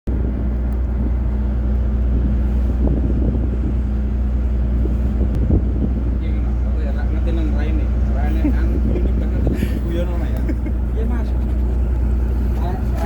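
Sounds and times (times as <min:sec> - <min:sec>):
boat engine droning: 0:00.1 - 0:13.0.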